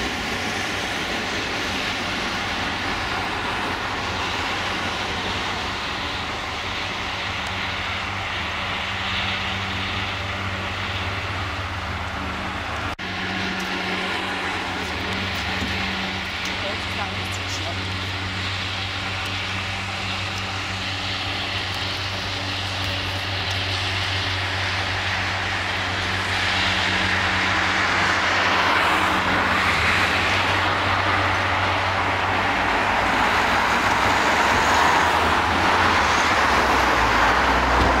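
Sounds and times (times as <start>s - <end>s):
car engine drone: 0.0s - 38.0s
road and wind noise: 0.0s - 38.0s.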